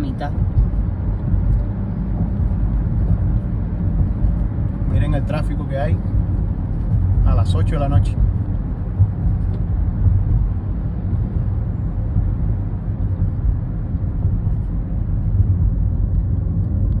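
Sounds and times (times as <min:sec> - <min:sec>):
car engine low rumble: 0:00.0 - 0:17.0
road noise: 0:00.0 - 0:17.0.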